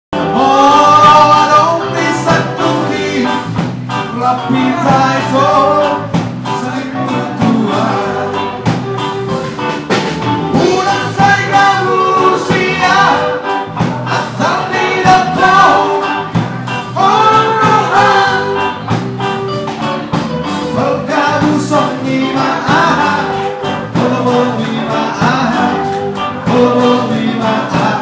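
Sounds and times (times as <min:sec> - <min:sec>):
person singing: 0:00.2 - 0:09.5, 0:10.5 - 0:28.0
drum kit: 0:00.2 - 0:28.0
electric guitars: 0:00.2 - 0:28.0.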